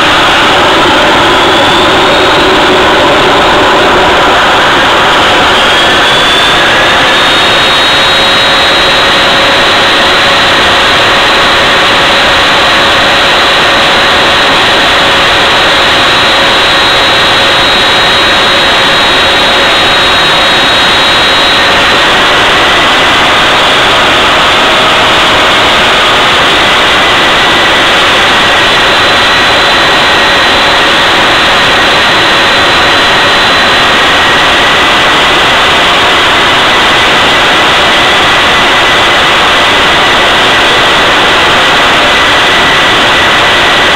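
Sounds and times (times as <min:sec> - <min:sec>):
high whining tones: 0:00.0 - 0:43.9
jet engine roaring: 0:00.0 - 0:43.9.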